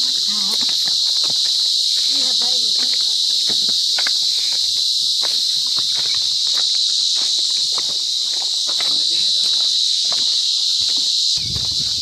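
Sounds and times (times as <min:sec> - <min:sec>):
footsteps crunching on stones: 0:00.0 - 0:12.0
high-pitched insect drone: 0:00.0 - 0:12.0.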